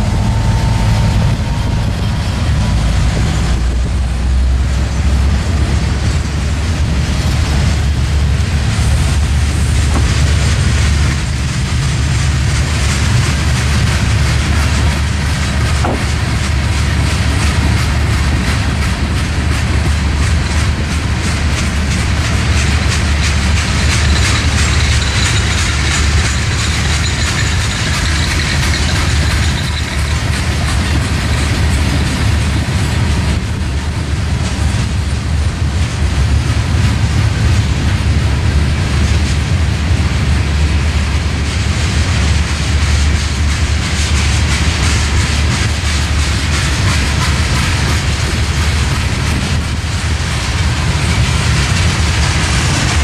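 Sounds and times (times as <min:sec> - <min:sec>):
freight train rumbling past: 0:00.0 - 0:53.0
wheels clicking over rail joints: 0:02.5 - 0:53.0.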